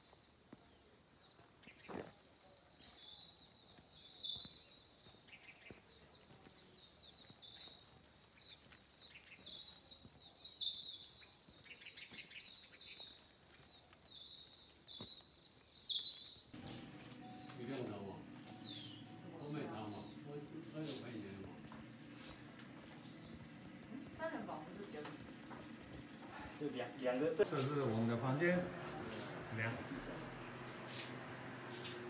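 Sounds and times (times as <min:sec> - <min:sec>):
faint outdoor background: 0:00.0 - 0:32.0
birds chirping and singing: 0:00.7 - 0:32.0.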